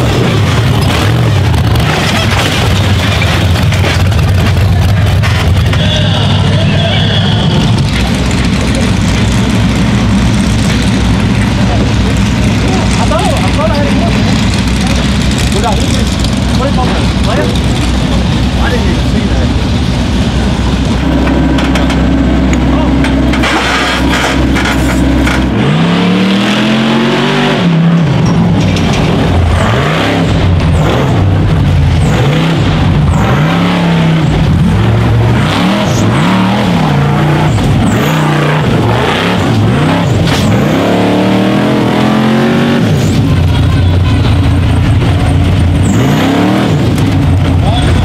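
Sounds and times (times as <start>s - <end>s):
buggy engine revving hard: 0.0s - 48.0s.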